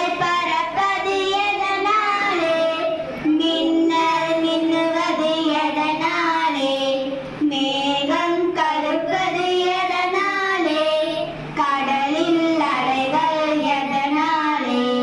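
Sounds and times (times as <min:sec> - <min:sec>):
girl singing into microphone: 0:00.0 - 0:15.0.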